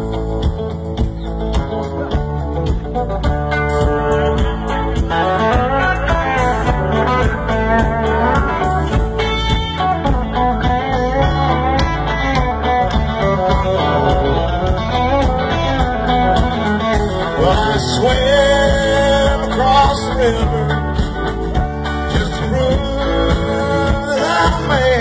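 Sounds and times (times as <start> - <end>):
electric guitar lines: 0.0 - 25.0
live band playing: 0.0 - 25.0.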